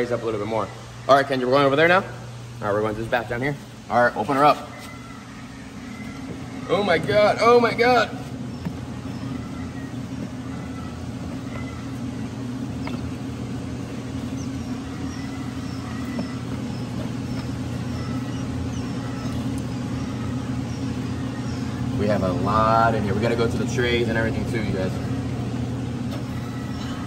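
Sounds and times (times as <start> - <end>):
low machine hum: 0.0 - 27.0
quail chicks peeping: 4.2 - 27.0.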